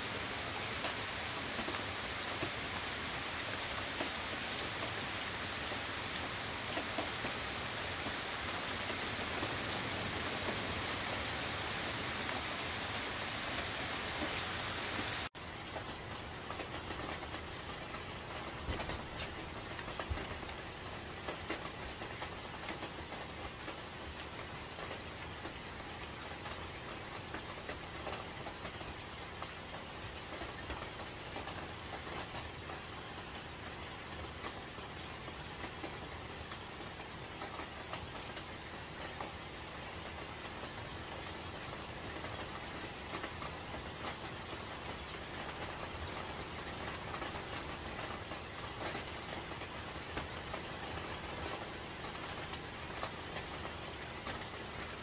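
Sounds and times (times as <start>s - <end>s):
heavy rain on a tent roof: 0.0s - 55.0s
sharp raindrop ticks: 0.1s - 55.0s.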